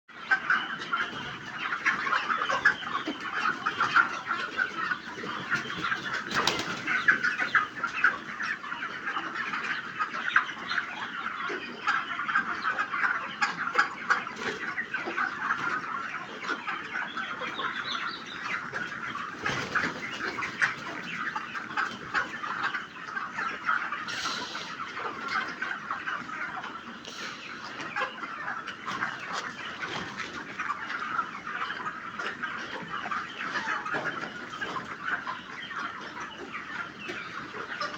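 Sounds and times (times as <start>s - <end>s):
chickens clucking and cheeping: 0.1s - 37.9s.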